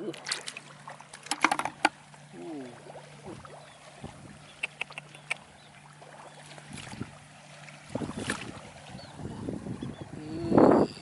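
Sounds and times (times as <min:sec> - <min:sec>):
water splashing and sloshing: 0:00.0 - 0:10.7.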